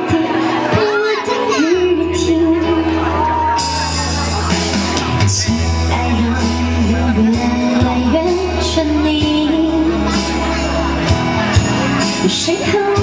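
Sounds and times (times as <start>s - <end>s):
woman singing into microphone: 0.0s - 3.8s, 5.3s - 13.0s
pop song through sound system: 0.0s - 13.0s.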